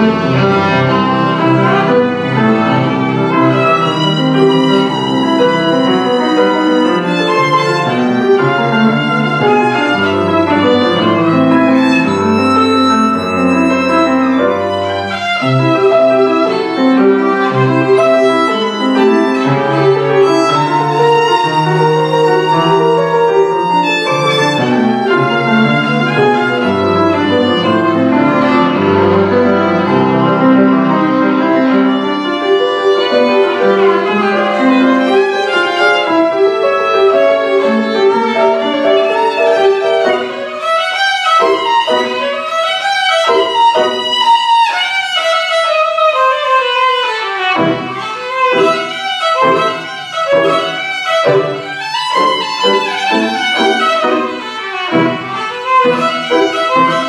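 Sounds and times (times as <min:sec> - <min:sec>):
grand piano accompaniment: 0:00.0 - 0:57.0
violin melody: 0:00.0 - 0:57.0.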